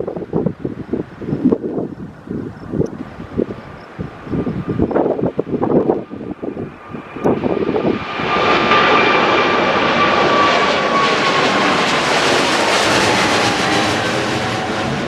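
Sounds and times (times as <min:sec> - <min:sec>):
jet airliner roaring: 0:00.0 - 0:15.0
jet engine whine: 0:00.0 - 0:15.0.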